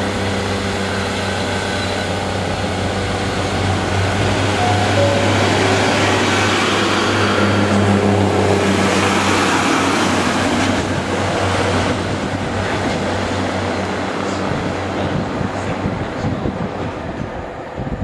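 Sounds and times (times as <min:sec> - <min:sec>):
train diesel engine drone: 0:00.0 - 0:18.0
wheel and rail noise: 0:00.0 - 0:18.0.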